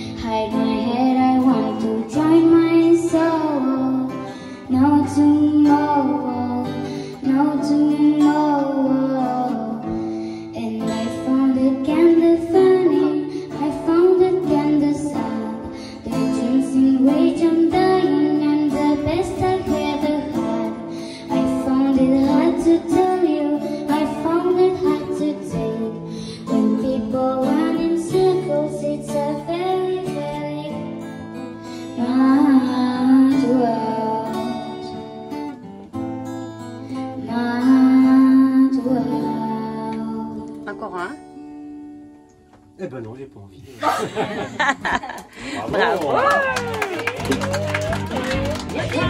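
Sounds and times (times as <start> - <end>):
girl singing into a microphone: 0.0 - 42.1
strummed acoustic guitars: 0.0 - 42.8, 43.8 - 49.0.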